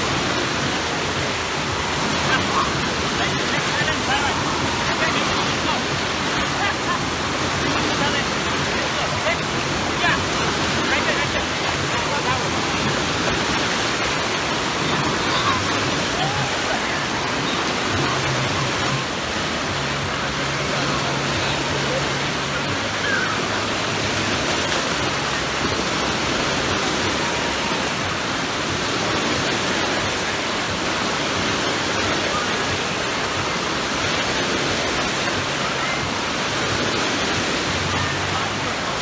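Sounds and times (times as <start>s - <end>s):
faint voices of swimmers: 0.0s - 39.0s
surf rushing and breaking: 0.0s - 39.0s.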